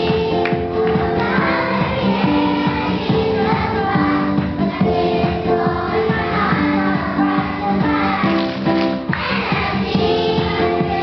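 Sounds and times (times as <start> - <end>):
backing track with steady beat: 0.0 - 11.0
children singing: 0.0 - 11.0.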